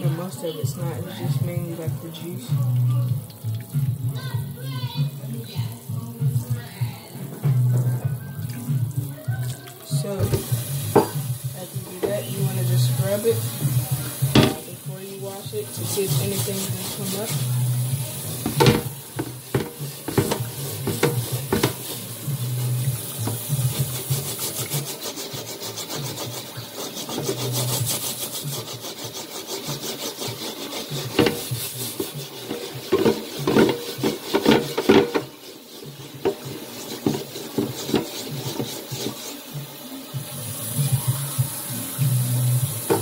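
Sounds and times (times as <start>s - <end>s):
running tap water: 0.0s - 43.0s
scrubber rasping on pan: 0.0s - 43.0s.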